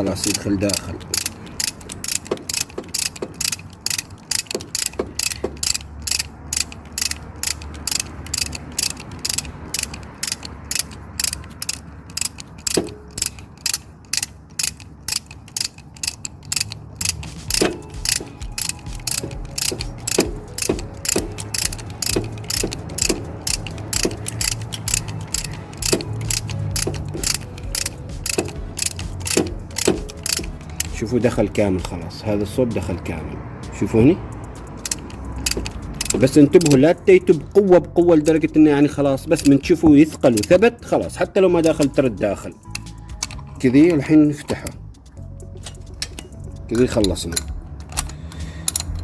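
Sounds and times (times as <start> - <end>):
ratchet wrench clicking: 0.0 - 32.1, 33.8 - 49.0.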